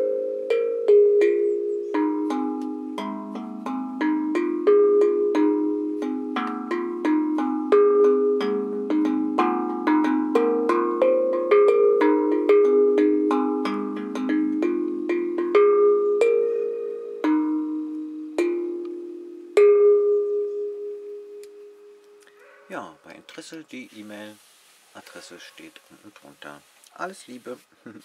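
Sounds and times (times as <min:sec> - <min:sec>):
steel tongue drum notes ringing: 0:00.0 - 0:22.5.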